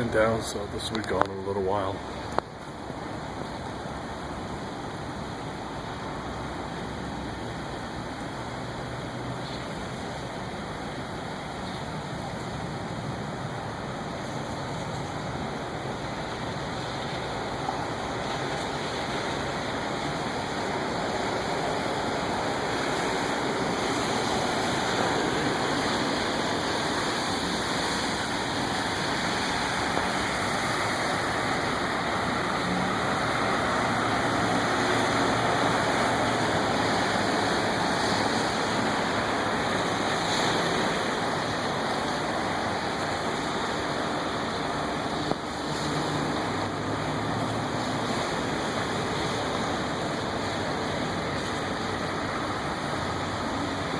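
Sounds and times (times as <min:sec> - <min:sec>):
faint vehicle engine: 0:00.0 - 0:53.9
floodwater rushing: 0:00.0 - 0:53.9.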